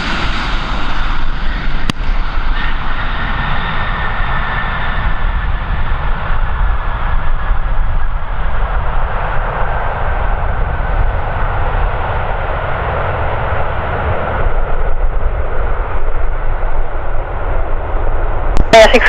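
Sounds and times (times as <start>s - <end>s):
airliner engines running: 0.0s - 19.0s.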